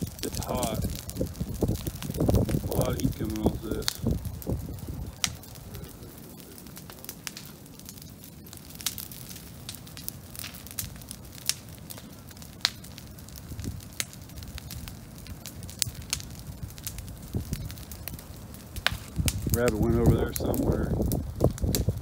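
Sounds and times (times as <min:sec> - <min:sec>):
bonfire crackling and popping: 0:00.0 - 0:22.0
low rush of flames: 0:00.0 - 0:22.0.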